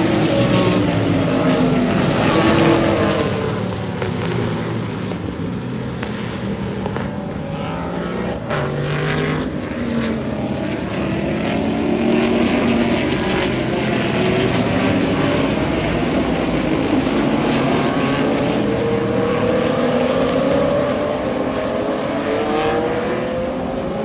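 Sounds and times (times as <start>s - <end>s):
race cars passing at full throttle: 0.0s - 24.0s.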